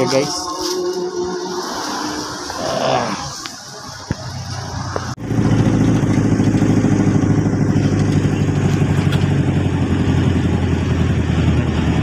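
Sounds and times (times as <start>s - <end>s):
van engine running: 2.2s - 12.0s.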